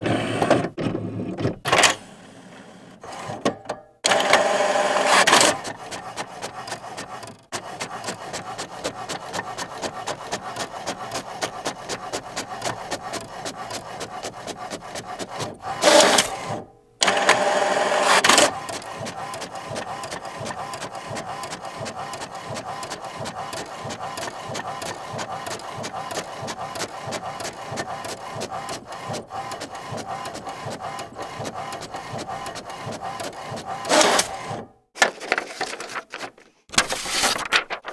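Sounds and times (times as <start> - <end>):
printer feed motor whirring: 0.0 - 34.7
printer rapid clicking: 3.1 - 36.3.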